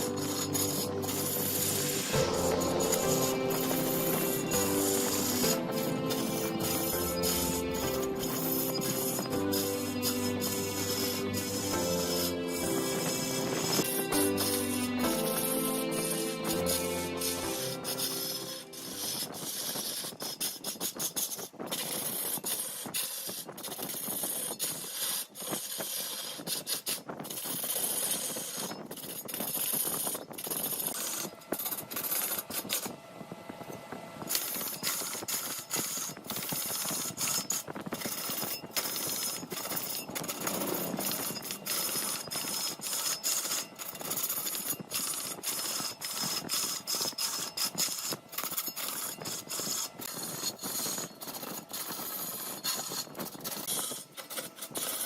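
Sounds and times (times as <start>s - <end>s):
lathe tool cutting wood: 0.0s - 55.0s.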